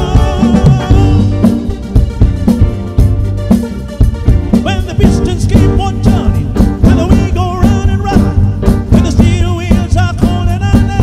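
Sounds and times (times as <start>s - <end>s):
live funk-rock band: 0.0s - 11.0s.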